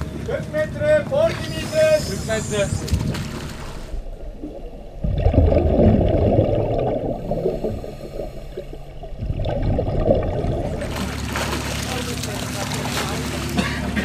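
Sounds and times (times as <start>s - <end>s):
muffled water gurgling and sloshing: 0.0s - 14.0s.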